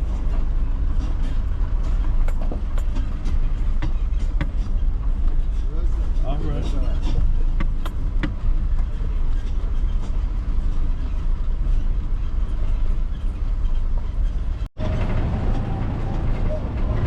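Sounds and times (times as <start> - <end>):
moving vehicle rumble: 0.0 - 17.0.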